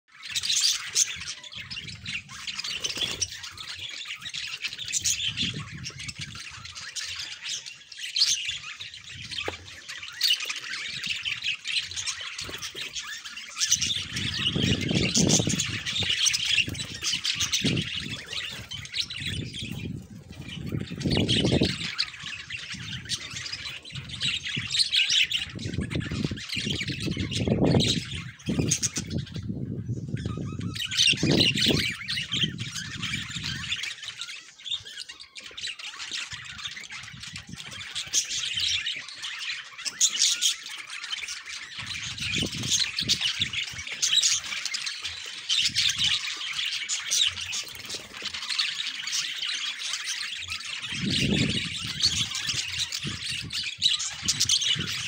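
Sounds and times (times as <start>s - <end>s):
budgerigars chattering: 0.1s - 55.0s.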